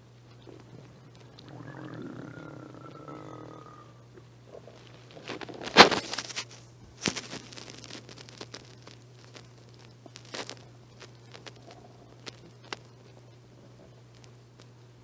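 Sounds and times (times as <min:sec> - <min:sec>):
stomach gurgling: 0:00.0 - 0:14.8.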